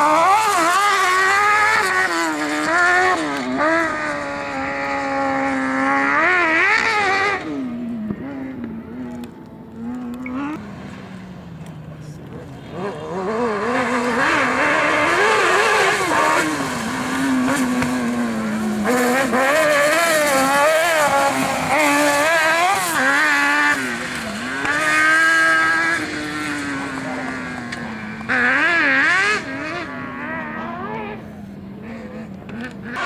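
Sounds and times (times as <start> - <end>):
racing engine revving: 0.0 - 33.0.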